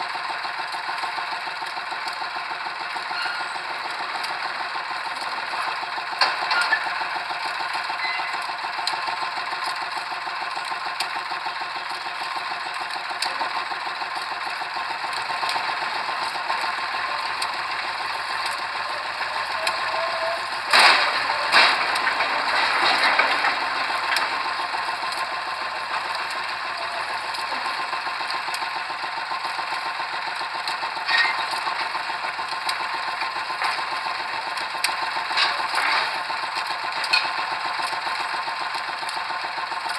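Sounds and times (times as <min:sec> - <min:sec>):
pile driver engine rattling: 0:00.0 - 0:39.9.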